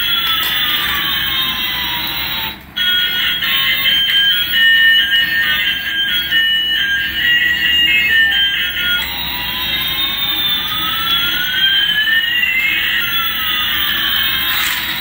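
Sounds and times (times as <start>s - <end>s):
toy jet engine sound effect: 0.0s - 15.0s.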